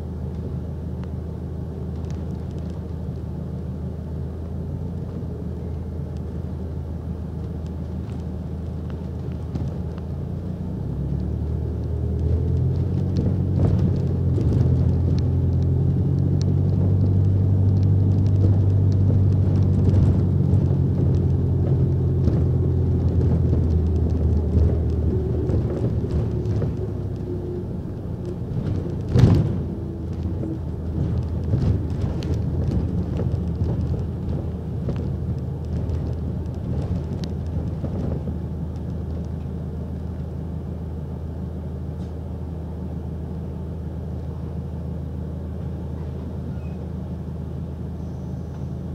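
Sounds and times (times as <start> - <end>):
bus engine and road noise: 0.0 - 48.9.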